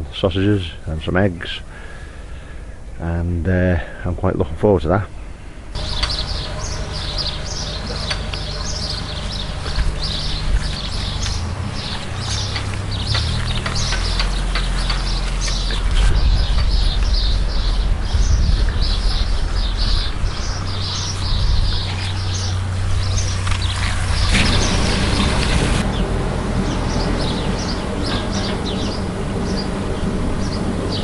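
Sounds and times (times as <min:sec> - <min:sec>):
birds chirping: 0:00.0 - 0:31.0
steady low rumble: 0:00.0 - 0:31.0.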